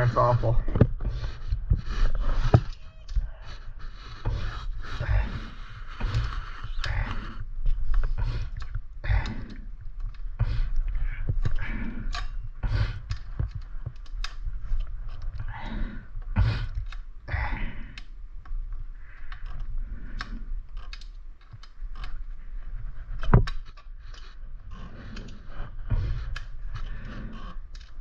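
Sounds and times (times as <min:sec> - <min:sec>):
person breathing: 0:00.0 - 0:28.0
hand tools clicking and tapping: 0:04.1 - 0:22.3, 0:23.0 - 0:28.0.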